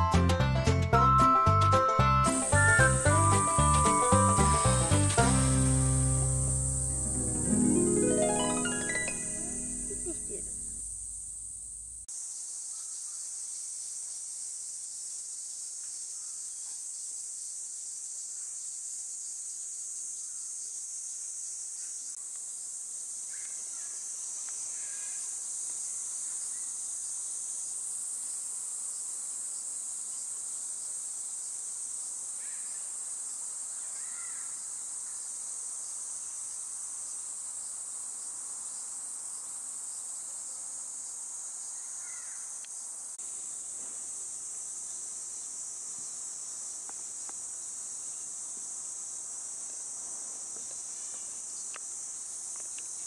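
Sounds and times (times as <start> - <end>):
cicadas droning: 1.2 - 53.0
faint short insect calls: 2.2 - 53.0.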